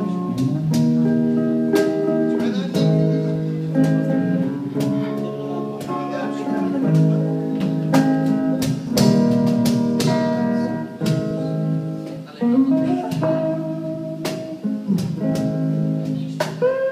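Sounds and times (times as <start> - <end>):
electric bass playing: 0.0 - 16.9
electric guitar strumming chords: 0.0 - 16.9.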